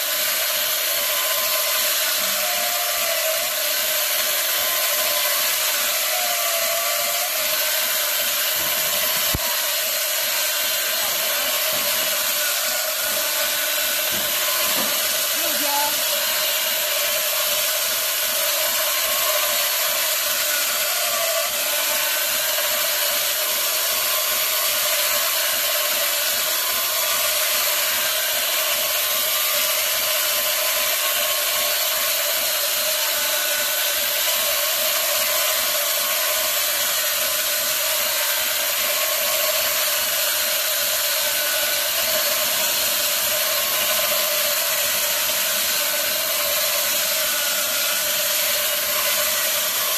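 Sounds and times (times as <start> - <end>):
electric chainsaw cutting masonry: 0.0 - 49.9.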